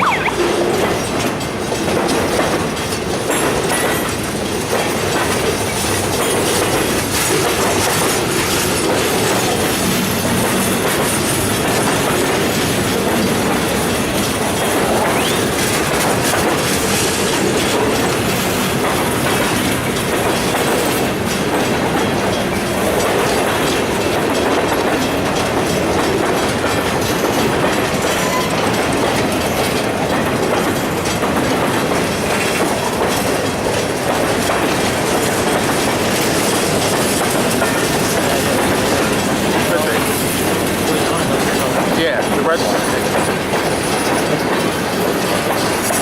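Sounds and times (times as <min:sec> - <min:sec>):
freight train rumbling past: 0:00.0 - 0:46.0
wheels clacking over rail joints: 0:00.0 - 0:46.0.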